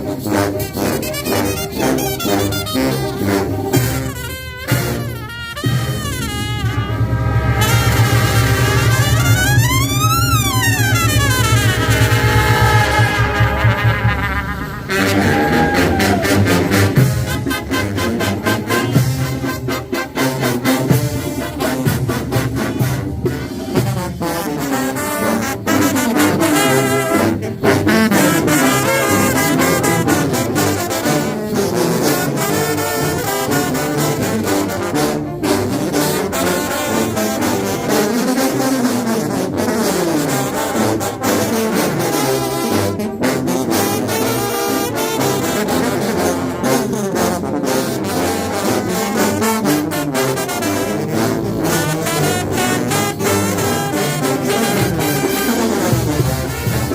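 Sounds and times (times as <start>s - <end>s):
trombones and trumpets: 0.0s - 56.9s
tubas playing bass line: 0.0s - 56.9s.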